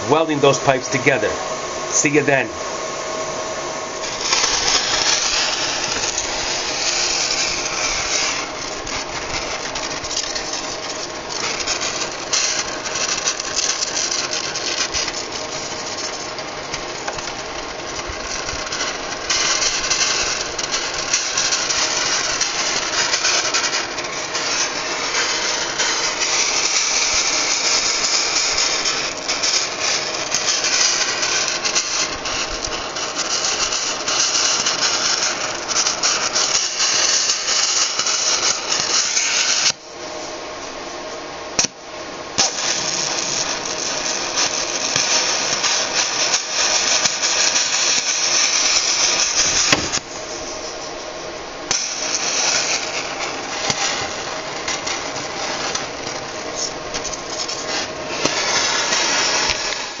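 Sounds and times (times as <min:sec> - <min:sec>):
plasma torch hissing and crackling: 0:00.0 - 1:00.0.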